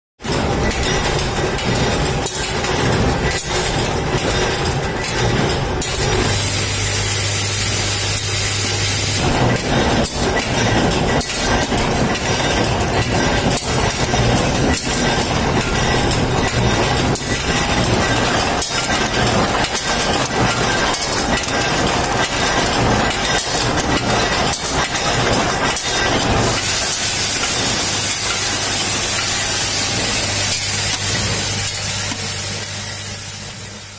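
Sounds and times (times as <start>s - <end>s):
machinery clattering metallic knocks: 0.2s - 33.2s.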